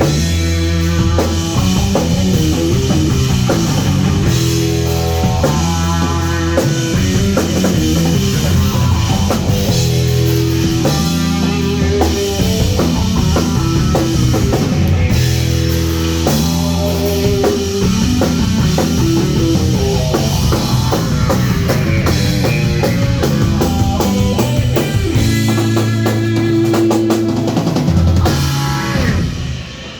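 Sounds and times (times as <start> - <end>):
rock band playing loud: 0.0 - 29.9.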